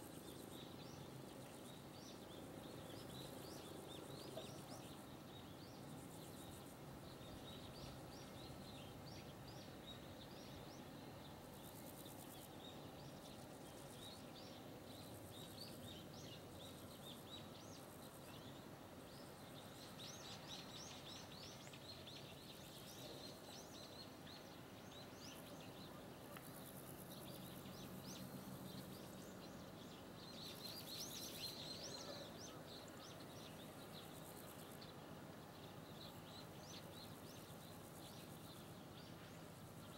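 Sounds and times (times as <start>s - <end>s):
small birds twittering: 0.1s - 39.9s.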